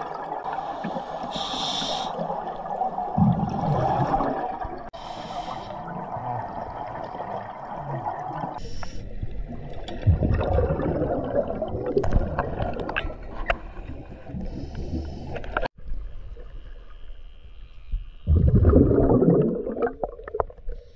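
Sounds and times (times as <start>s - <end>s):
underwater bubbles gurgling: 0.0s - 16.5s, 18.3s - 20.9s.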